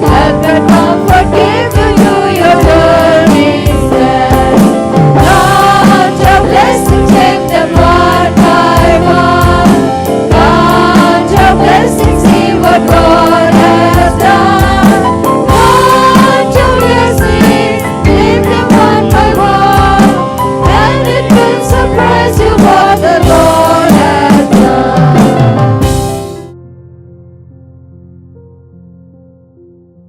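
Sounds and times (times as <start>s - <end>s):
choir singing a hymn: 0.0s - 26.0s
band with steady drum beat: 0.0s - 26.5s.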